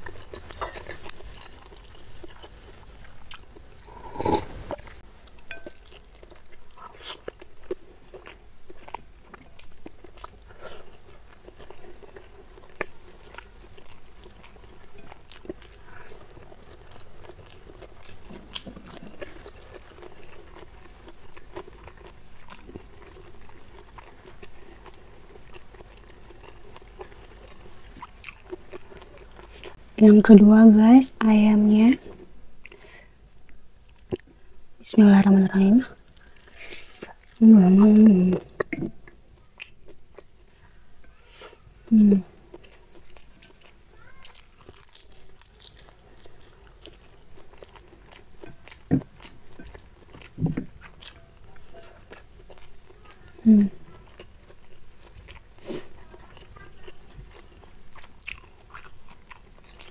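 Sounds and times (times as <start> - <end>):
chewing crunchy food: 0.0 - 30.4, 35.8 - 59.9.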